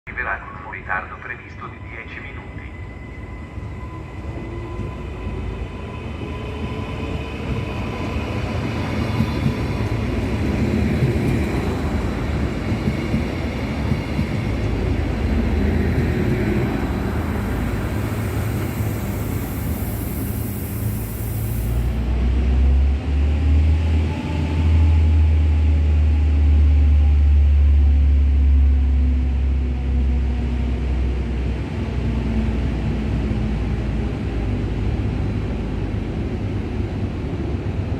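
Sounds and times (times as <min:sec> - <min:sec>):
diesel train rumbling past: 0:00.1 - 0:37.9.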